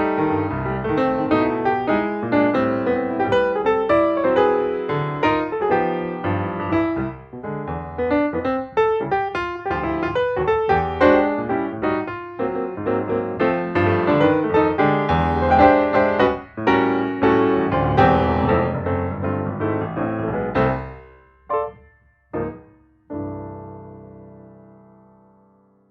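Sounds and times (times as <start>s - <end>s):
piano music: 0.0s - 25.9s.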